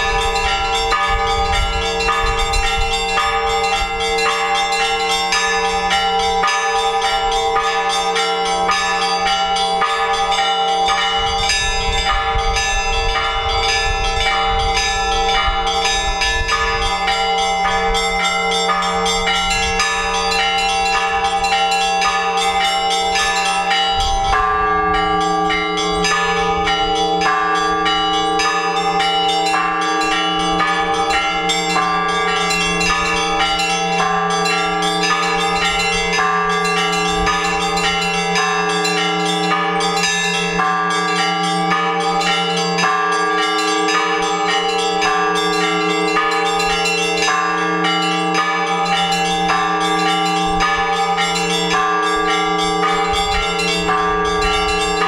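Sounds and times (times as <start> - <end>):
hum of large bells: 0.0 - 55.0
small church bells struck rapidly: 0.0 - 55.0.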